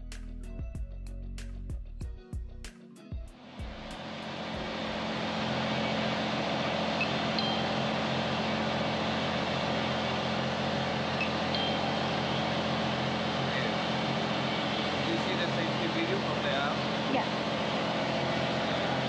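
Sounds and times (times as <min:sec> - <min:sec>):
mechanical drone with low hum: 0:00.0 - 0:19.0.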